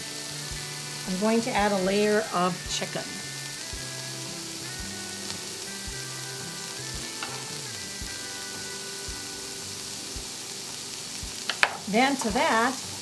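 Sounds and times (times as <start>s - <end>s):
bread sizzling on a griddle: 0.0s - 13.0s
soft background music: 0.0s - 13.0s.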